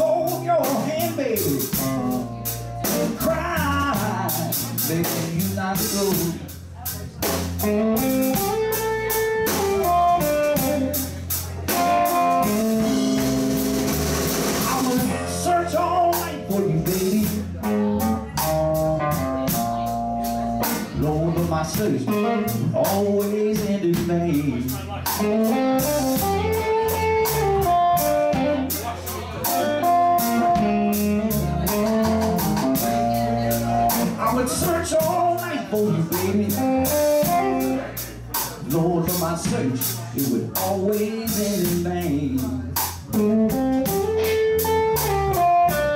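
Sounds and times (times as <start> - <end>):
drum kit steady beat: 0.0 - 45.9
electric bass: 0.0 - 45.9
electric guitar with bent notes: 0.0 - 45.9.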